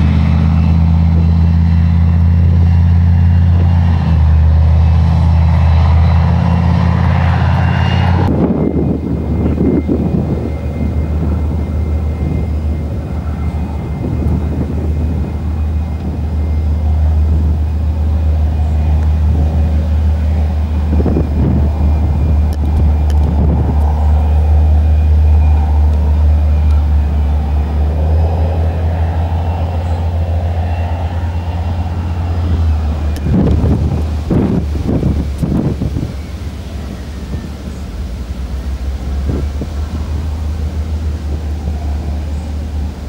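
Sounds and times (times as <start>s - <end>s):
tank engines droning: 0.0s - 43.0s.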